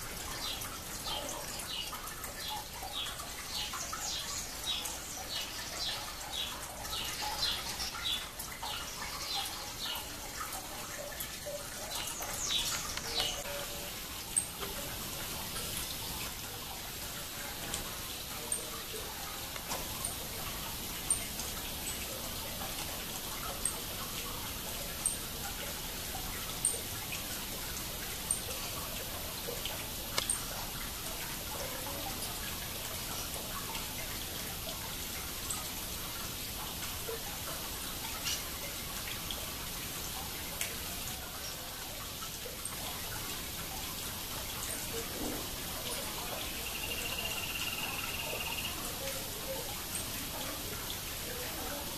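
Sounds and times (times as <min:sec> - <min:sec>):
water trickling down stones: 0:00.0 - 0:51.9.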